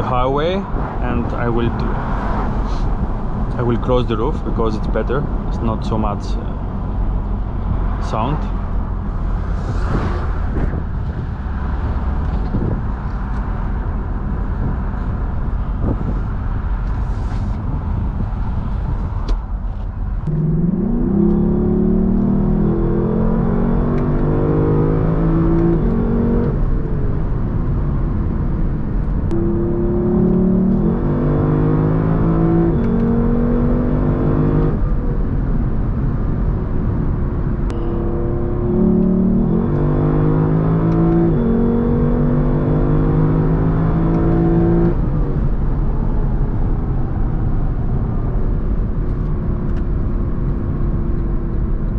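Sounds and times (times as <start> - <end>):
car engine accelerating: 0.0 - 51.9
road and wind rumble: 0.0 - 51.9.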